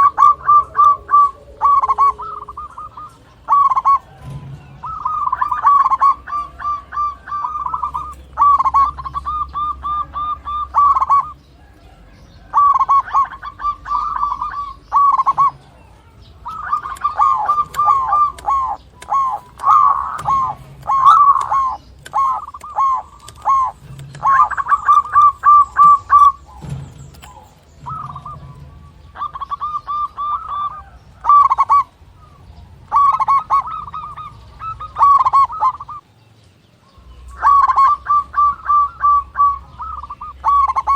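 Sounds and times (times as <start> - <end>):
dove cooing: 0.0 - 36.0, 36.8 - 40.9.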